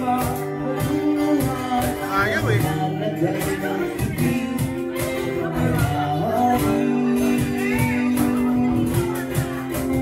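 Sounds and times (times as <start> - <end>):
live band playing guitar song: 0.0 - 10.0
person singing: 0.0 - 10.0.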